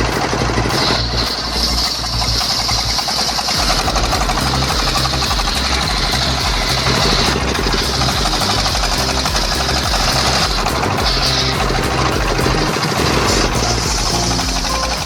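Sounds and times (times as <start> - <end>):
machine engine pounding rhythmically: 0.0 - 15.0.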